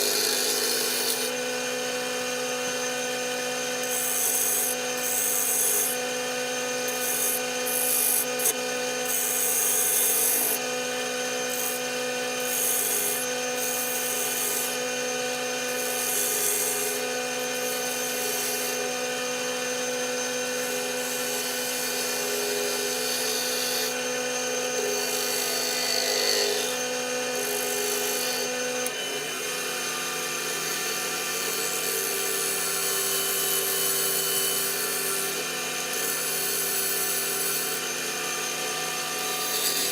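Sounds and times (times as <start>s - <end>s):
tool cutting wood hiss: 0.0s - 3.0s, 3.7s - 10.7s, 11.4s - 14.9s, 15.5s - 39.9s
lathe motor hum: 0.0s - 9.4s, 11.6s - 15.0s, 15.8s - 32.6s, 33.4s - 39.9s.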